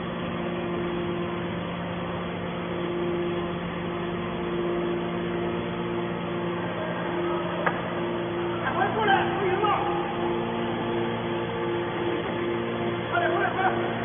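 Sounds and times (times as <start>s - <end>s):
machine pump hum: 0.0s - 14.0s.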